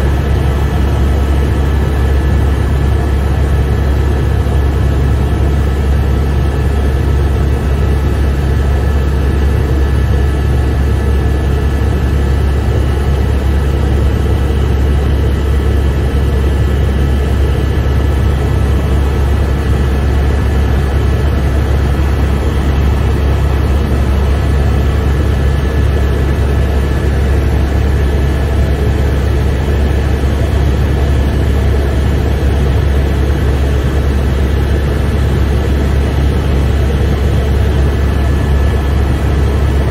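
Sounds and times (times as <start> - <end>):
helicopter engine and rotor rumble: 0.0 - 39.9.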